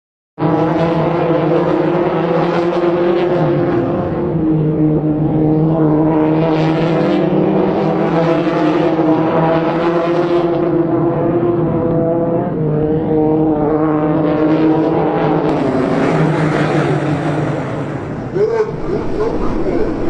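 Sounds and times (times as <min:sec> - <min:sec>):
motorcycle engines at high revs: 0:00.4 - 0:20.0.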